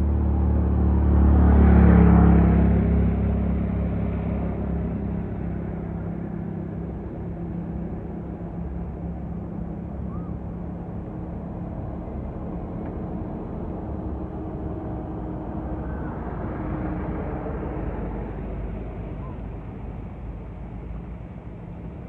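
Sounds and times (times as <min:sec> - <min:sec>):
engine hum: 0:00.0 - 0:22.0.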